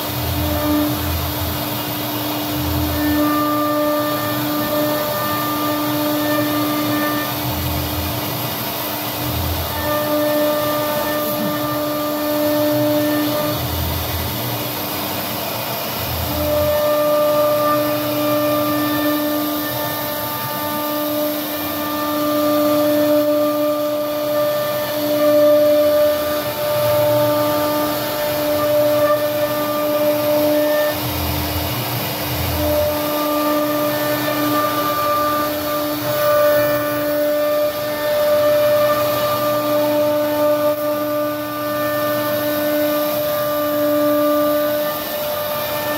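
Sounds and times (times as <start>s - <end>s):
router spindle whining: 0.0s - 45.9s.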